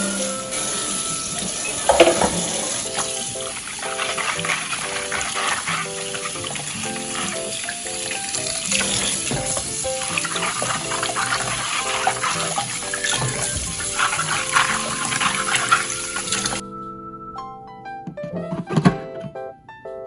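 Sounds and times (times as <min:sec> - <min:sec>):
water running from tap: 0:00.0 - 0:16.6
music of short repeated notes: 0:00.0 - 0:20.0.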